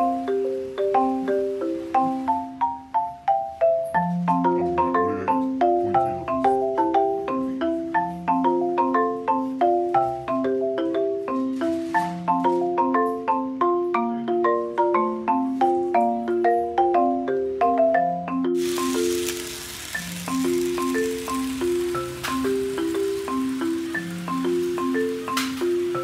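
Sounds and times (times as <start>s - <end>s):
marimba-like mallet music: 0.0s - 26.0s.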